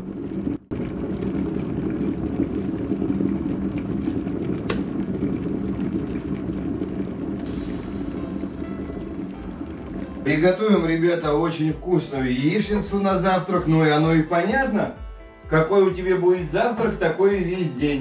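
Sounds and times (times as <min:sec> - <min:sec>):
kettle water boiling: 0:00.0 - 0:18.0.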